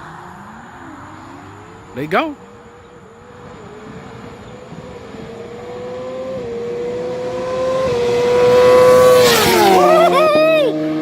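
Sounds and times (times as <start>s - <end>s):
motorcycle engines at full throttle: 0.0s - 11.0s.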